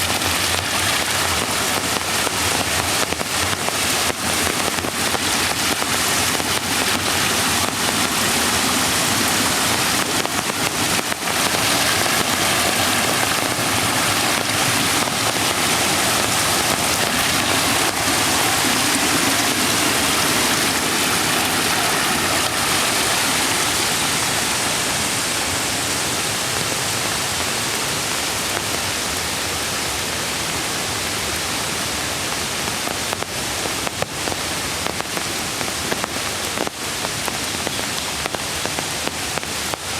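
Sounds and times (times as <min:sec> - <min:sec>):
creek water rushing: 0:00.0 - 0:39.9
light rain falling: 0:00.0 - 0:39.9.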